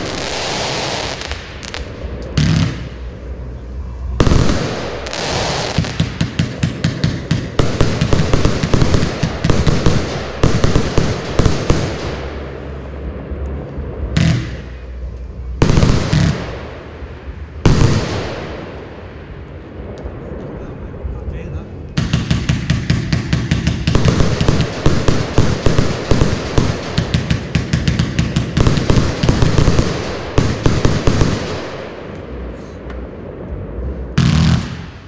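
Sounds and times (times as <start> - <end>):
firework barrage firing: 0.0 - 35.0
heavy firework bangs: 0.0 - 35.0.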